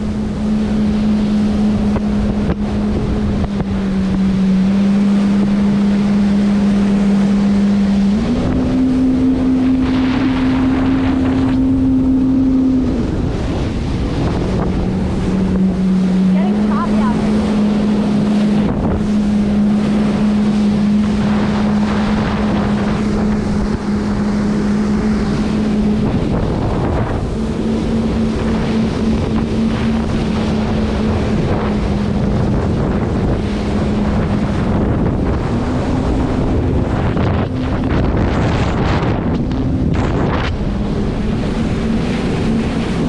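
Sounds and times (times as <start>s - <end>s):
jet ski engine drone: 0.0s - 43.0s
wind buffeting microphone: 0.0s - 43.0s.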